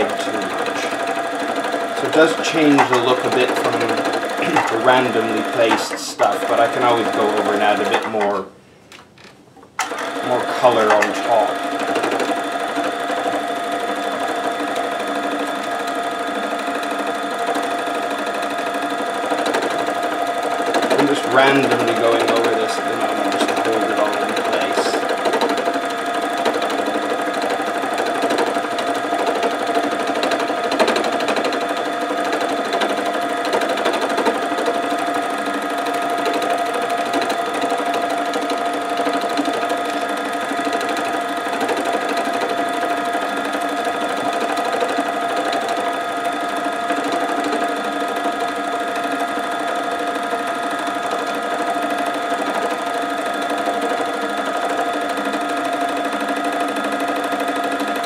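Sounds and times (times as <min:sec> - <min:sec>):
felting machine humming: 0:00.0 - 0:58.0.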